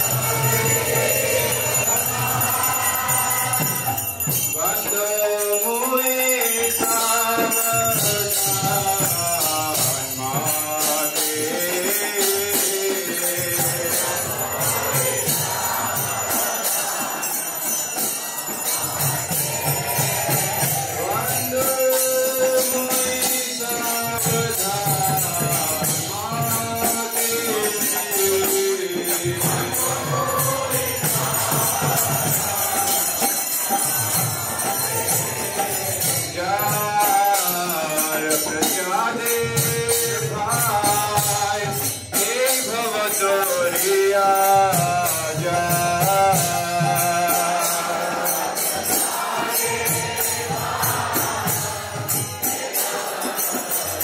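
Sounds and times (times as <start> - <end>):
devotional chanting: 0.0 - 54.0
jingling metal percussion: 0.0 - 54.0.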